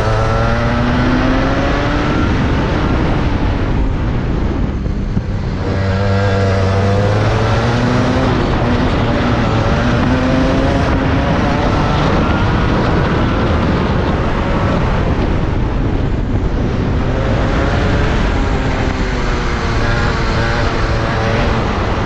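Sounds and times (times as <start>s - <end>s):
kart engine revving: 0.0s - 22.0s.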